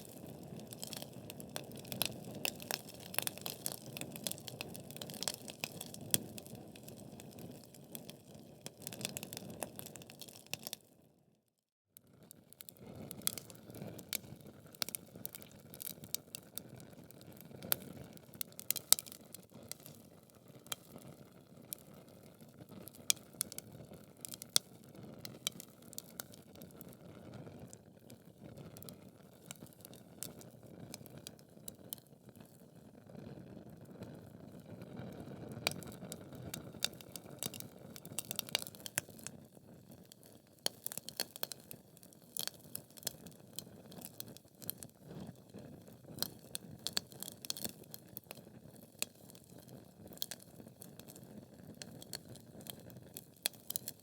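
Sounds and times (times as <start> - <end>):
logs crackling in fireplace: 0.0 - 10.8, 12.7 - 27.1, 27.8 - 32.6, 35.2 - 54.0.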